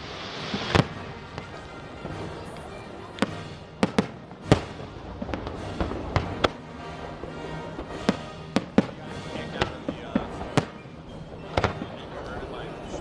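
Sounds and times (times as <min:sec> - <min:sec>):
background music: 0:00.0 - 0:13.0
fireworks bangs: 0:00.0 - 0:13.0.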